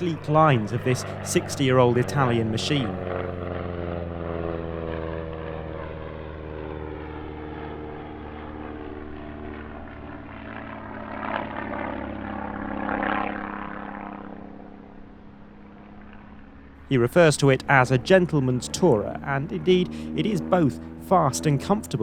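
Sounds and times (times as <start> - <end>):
light aircraft propeller engine: 0.0 - 22.0.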